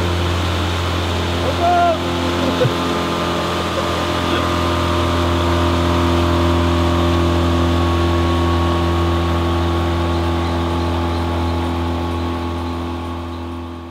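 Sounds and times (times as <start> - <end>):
outboard motor running: 0.0 - 13.9.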